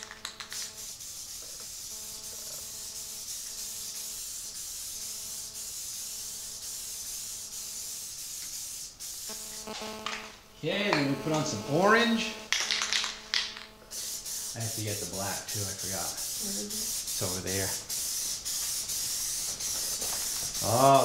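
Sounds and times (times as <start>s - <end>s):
spray paint can hissing: 0.0s - 10.4s, 12.5s - 21.0s.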